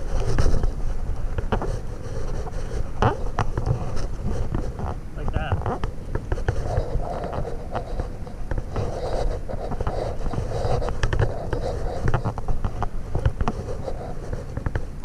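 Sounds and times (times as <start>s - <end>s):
knocks and scrapes: 0.0s - 15.0s
microphone handling noise: 0.0s - 15.0s
wind rumble: 0.0s - 15.0s.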